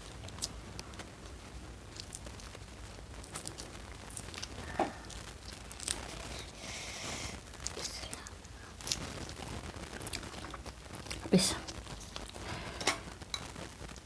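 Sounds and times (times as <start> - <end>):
crunchy rustle: 0.0 - 14.0.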